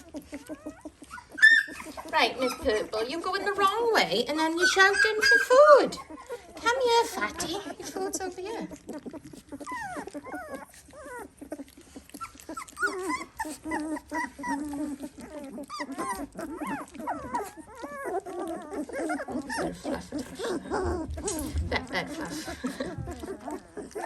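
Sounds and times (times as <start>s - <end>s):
puppies whining and squealing: 0.0s - 24.0s.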